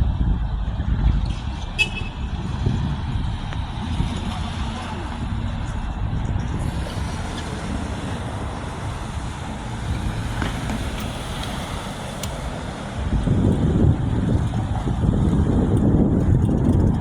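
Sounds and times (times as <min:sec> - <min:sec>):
traffic rumble: 0:00.0 - 0:17.0
vehicle passing close: 0:00.0 - 0:17.0.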